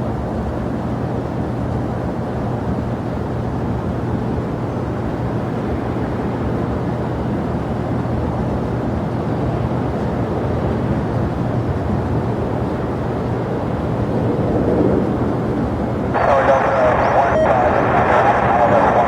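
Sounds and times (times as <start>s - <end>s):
jet airliner engines running: 0.0s - 19.0s.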